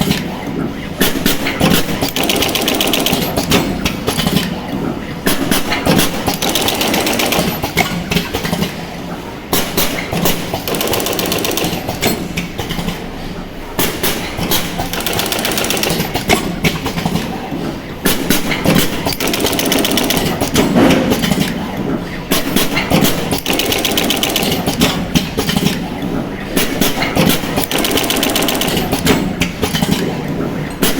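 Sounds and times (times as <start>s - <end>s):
machine clacking: 0.0s - 30.9s.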